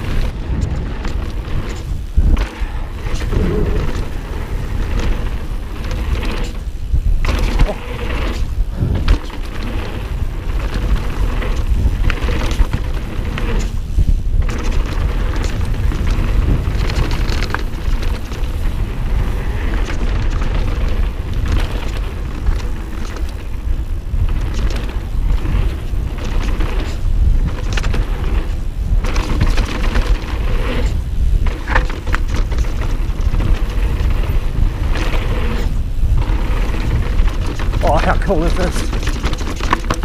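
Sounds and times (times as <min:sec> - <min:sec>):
bike knocking and rattling: 0:00.0 - 0:40.0
tyre noise on trail: 0:00.0 - 0:40.0
wind noise on microphone: 0:00.0 - 0:40.0.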